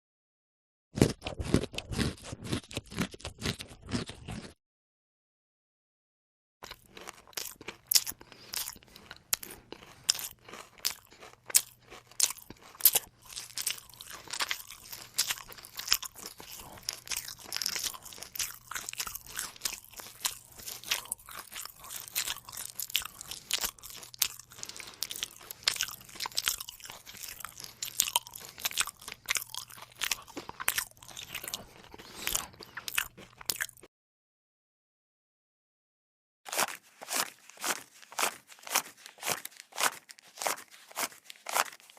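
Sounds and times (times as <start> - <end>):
chewing crunchy food: 1.0 - 4.6, 6.6 - 33.9, 36.5 - 41.9.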